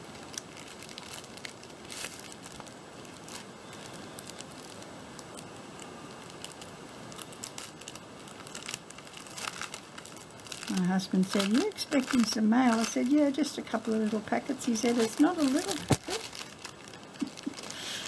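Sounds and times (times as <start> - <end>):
paper rustling: 0.0 - 18.0
plastic wrapping crinkling: 0.0 - 18.0.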